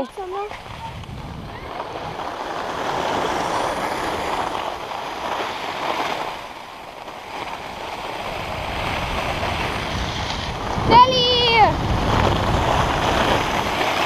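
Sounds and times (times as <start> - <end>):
wind buffeting microphone: 0.0 - 6.7, 7.6 - 14.0
skis scraping over packed snow: 0.0 - 14.0.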